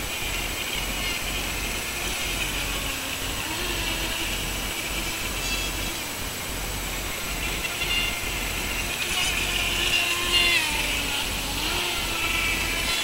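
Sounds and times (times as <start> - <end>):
model boat motor whining: 0.0 - 13.0
water spray hissing: 0.0 - 13.0.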